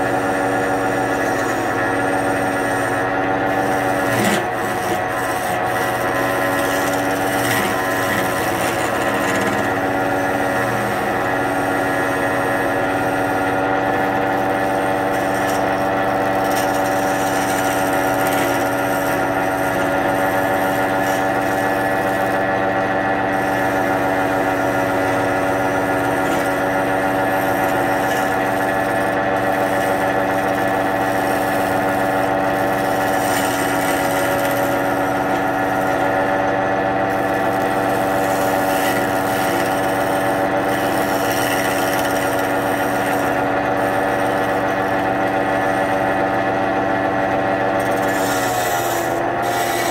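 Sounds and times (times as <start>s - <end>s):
gouge scraping spinning wood: 0.0s - 49.9s
wood lathe motor hum: 0.0s - 49.9s.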